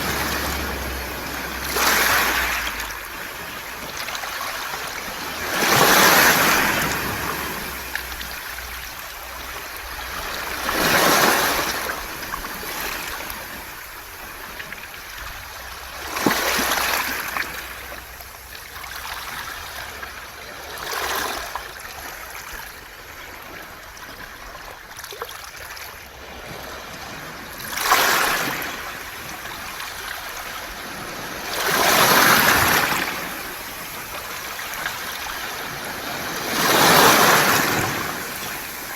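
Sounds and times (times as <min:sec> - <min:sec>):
waves washing over pebbles: 0:00.0 - 0:38.9.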